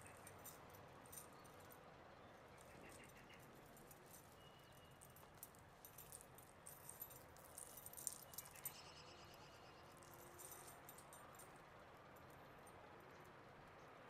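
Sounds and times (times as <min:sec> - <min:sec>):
metal bangles jingling: 0:00.0 - 0:01.8, 0:02.5 - 0:12.7.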